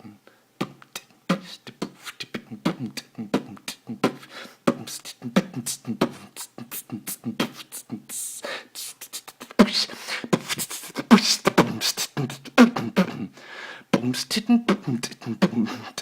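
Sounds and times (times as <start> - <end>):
man beatboxing: 0.0 - 13.3, 13.9 - 16.0.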